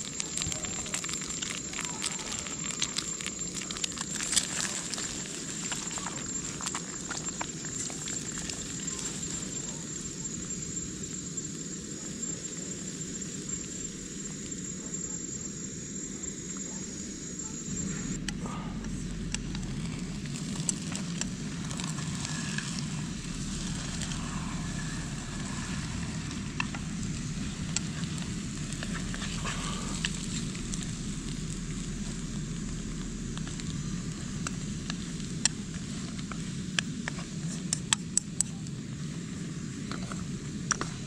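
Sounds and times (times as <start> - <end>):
eggs sizzling in oil: 0.0 - 41.0
gas burner hiss: 0.0 - 41.0.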